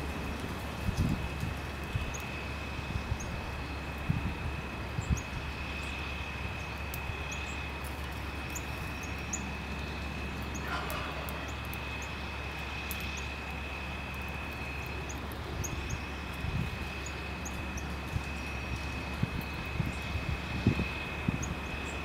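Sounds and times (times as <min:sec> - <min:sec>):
steady low hum: 0:00.0 - 0:22.0
songbirds chirping: 0:01.7 - 0:22.0
thin steady high tone: 0:02.0 - 0:22.0.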